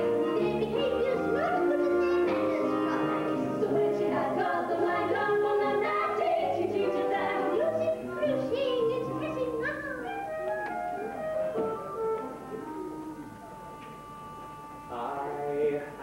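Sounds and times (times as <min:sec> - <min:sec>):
pit band playing musical theatre: 0:00.0 - 0:15.7.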